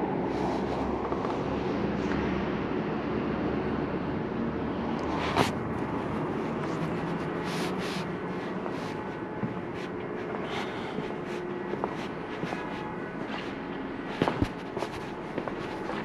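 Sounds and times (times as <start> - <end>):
church background noise: 0.0 - 16.0.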